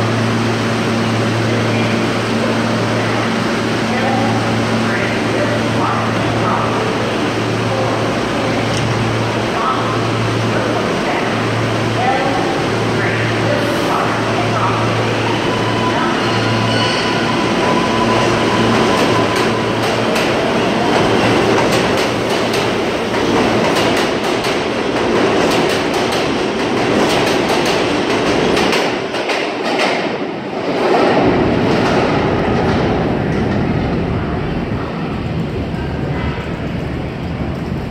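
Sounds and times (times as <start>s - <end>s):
subway train wheels rumbling: 0.0s - 37.9s.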